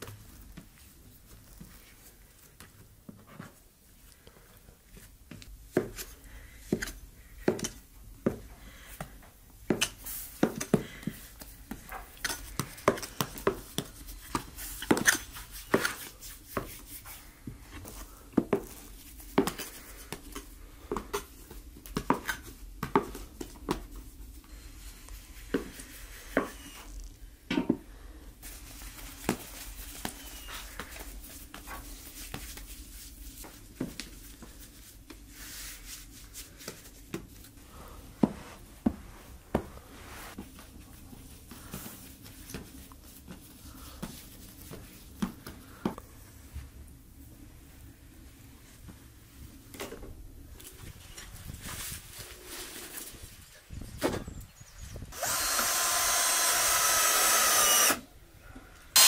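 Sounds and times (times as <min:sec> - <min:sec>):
dough being handled: 0:00.0 - 0:27.2, 0:27.8 - 0:49.7.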